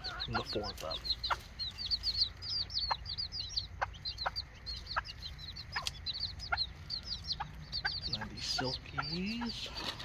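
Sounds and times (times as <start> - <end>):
chicken clucks: 0.0 - 10.0
chickens cheeping: 0.0 - 10.0.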